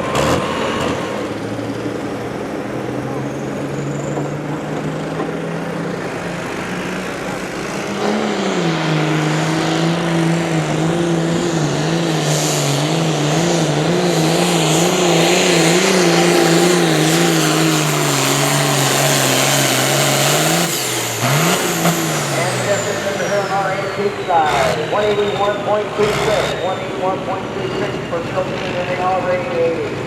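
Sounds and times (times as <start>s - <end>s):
pulling vehicle engine under load: 0.0s - 30.0s.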